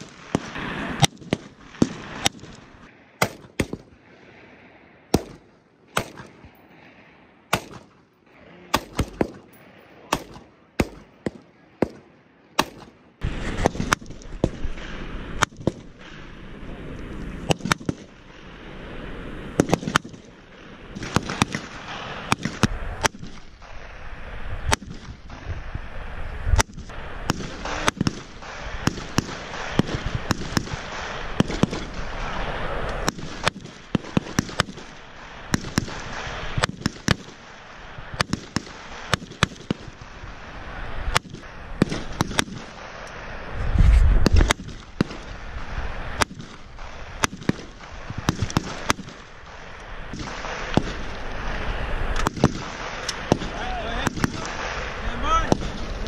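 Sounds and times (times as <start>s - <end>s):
rifle shots: 0.0s - 4.0s, 5.1s - 6.6s, 7.5s - 16.4s, 17.4s - 18.5s, 19.5s - 24.0s, 24.6s - 25.5s, 26.6s - 43.0s, 44.2s - 51.3s, 52.1s - 56.0s
steady background noise: 0.0s - 56.0s.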